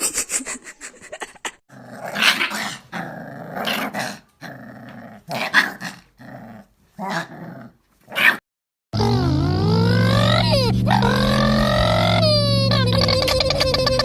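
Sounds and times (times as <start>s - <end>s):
dog growling: 1.7s - 8.4s, 9.0s - 14.0s.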